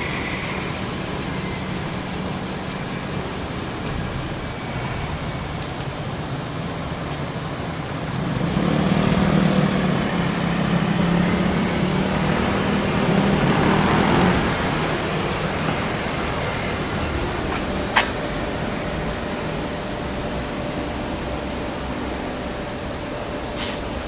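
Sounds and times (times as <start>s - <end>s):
traffic noise: 0.0s - 24.0s
vehicle engine hum passing: 0.0s - 24.0s.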